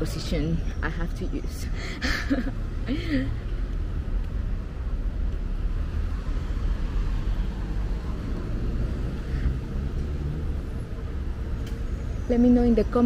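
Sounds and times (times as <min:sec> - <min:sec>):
traffic rumble: 0:00.0 - 0:13.0
vehicle engine: 0:00.0 - 0:13.0.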